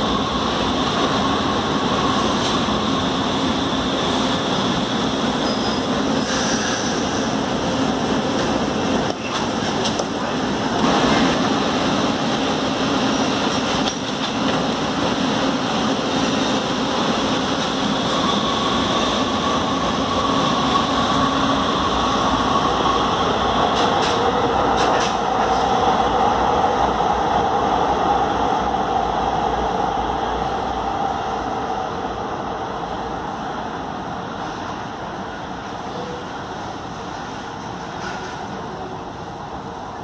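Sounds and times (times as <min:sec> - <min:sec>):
light-rail train rumble and whine: 0:00.0 - 0:40.0.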